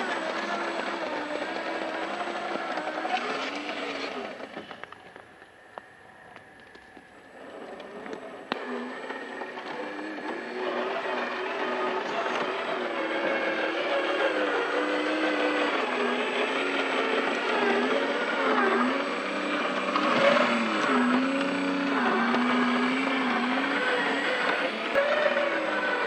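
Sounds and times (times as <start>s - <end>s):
rc truck motor whining: 0.0s - 26.0s.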